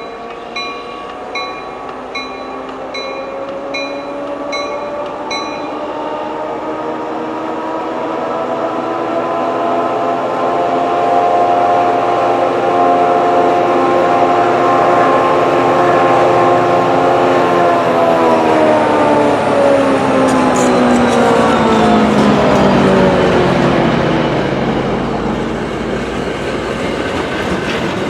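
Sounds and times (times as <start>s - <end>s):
train horn: 0.0s - 24.0s.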